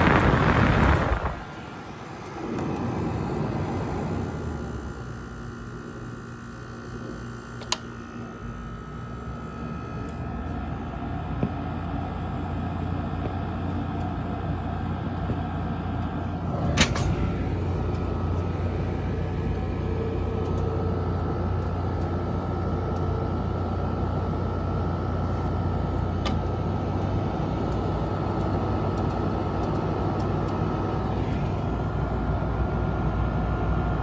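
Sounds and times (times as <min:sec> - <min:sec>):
air conditioner humming: 0:00.0 - 0:34.0
faint whine: 0:00.0 - 0:34.0.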